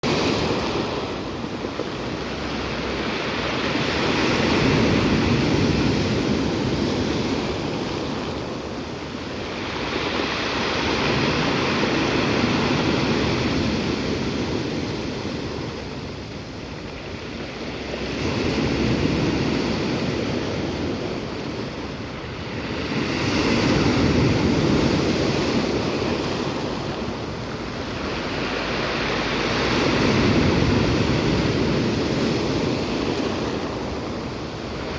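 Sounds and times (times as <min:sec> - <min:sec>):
surf washing onto shore: 0:00.0 - 0:34.9.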